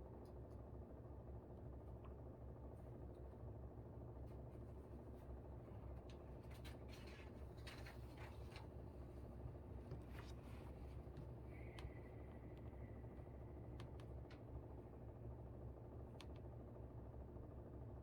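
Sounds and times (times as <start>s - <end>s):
air conditioner humming: 1.3s - 18.0s.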